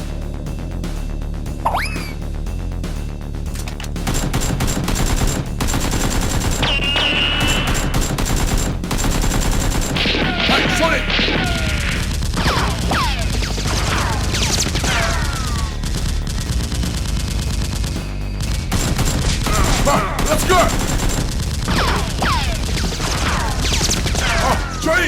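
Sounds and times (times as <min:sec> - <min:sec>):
rapid gunfire: 0:04.0 - 0:25.0.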